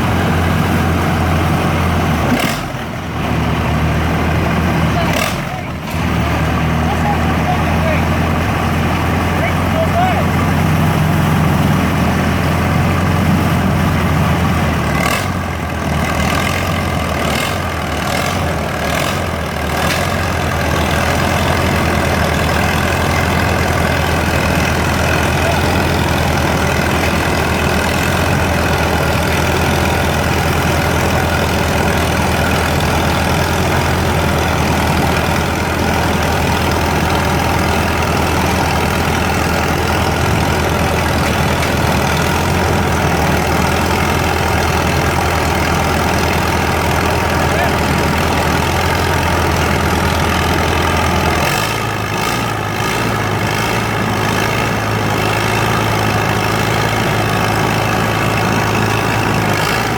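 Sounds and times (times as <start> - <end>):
tractor engine humming: 0.0 - 59.9.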